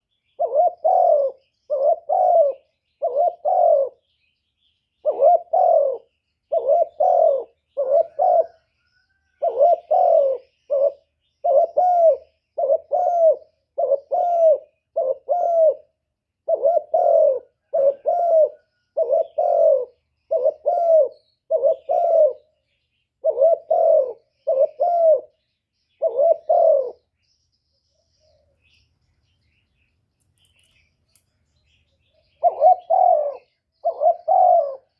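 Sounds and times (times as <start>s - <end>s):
dove cooing: 0.0s - 4.2s, 5.0s - 27.1s, 32.0s - 34.9s.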